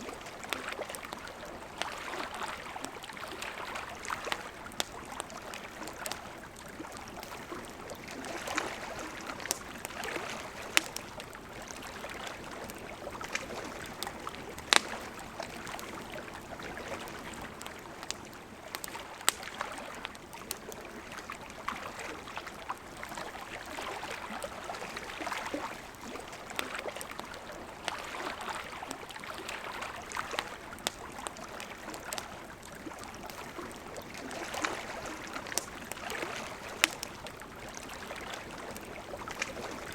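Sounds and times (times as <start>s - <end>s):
campfire crackling and popping: 0.0s - 39.9s
river water flowing: 0.0s - 39.9s.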